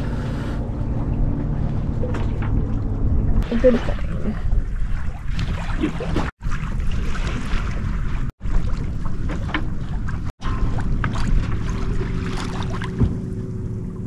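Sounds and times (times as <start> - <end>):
water splashing along hull: 0.0 - 14.0.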